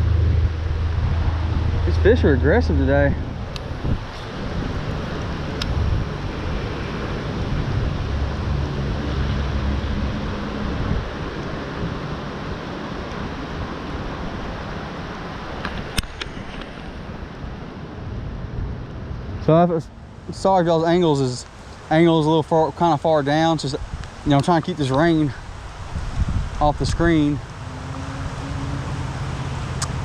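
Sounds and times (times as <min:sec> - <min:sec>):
wind buffeting microphone: 0:00.0 - 0:22.1, 0:23.3 - 0:30.0.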